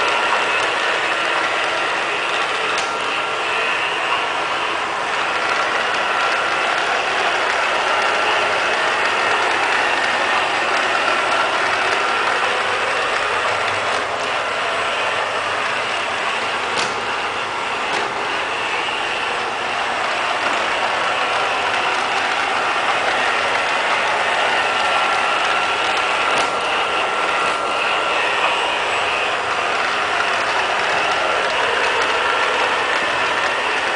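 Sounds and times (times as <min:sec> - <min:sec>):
robot vacuum whirring: 0:00.0 - 0:33.9.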